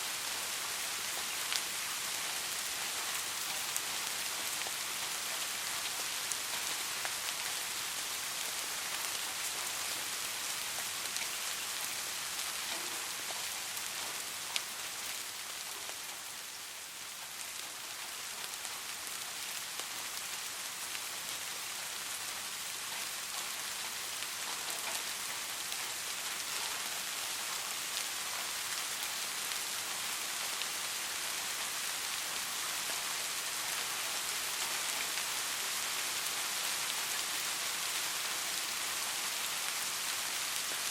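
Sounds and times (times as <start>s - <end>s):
soft rain falling: 0.0s - 40.9s.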